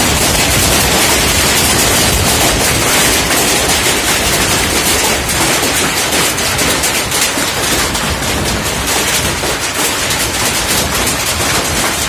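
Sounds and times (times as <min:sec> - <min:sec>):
heavy hail clattering: 0:00.0 - 0:12.0.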